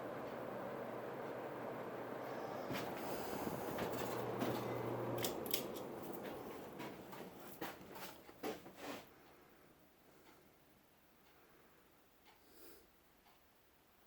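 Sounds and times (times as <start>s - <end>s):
ceiling fan running: 0.0s - 14.0s.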